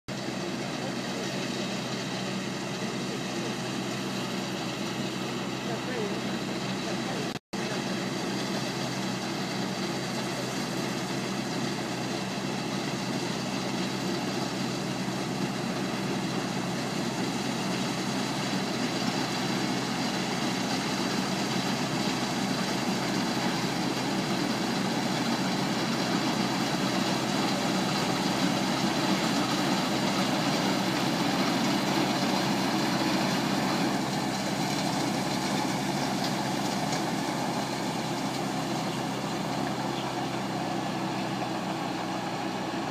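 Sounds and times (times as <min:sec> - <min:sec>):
combine harvester running: 0:00.1 - 0:42.9.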